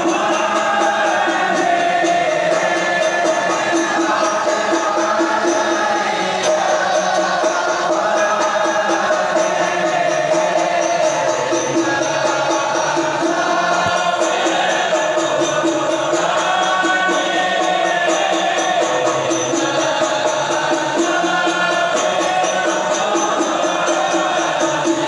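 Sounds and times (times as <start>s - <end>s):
frame drums beat: 0.0s - 25.0s
men chanting together: 0.0s - 25.0s.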